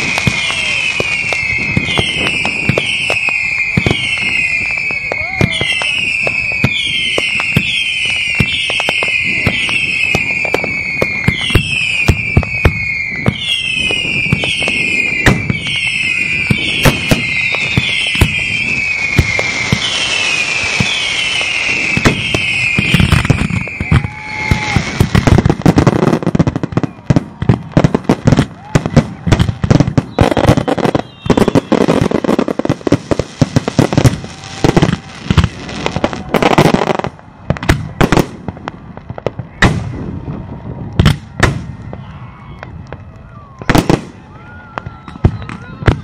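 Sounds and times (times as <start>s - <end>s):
fireworks banging and crackling: 0.0s - 46.0s.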